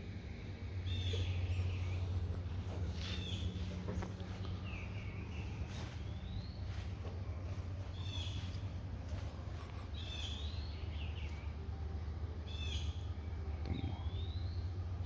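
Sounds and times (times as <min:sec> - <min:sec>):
bird chirping: 0:00.8 - 0:11.6, 0:12.4 - 0:14.9.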